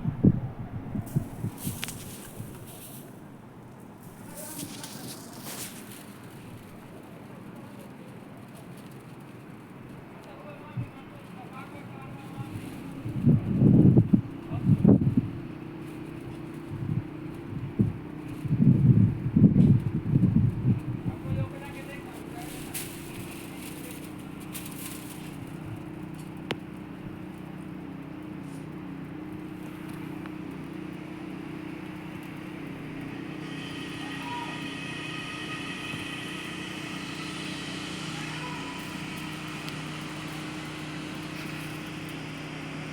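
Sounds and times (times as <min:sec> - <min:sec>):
steady mechanical drone: 0:00.0 - 0:42.9.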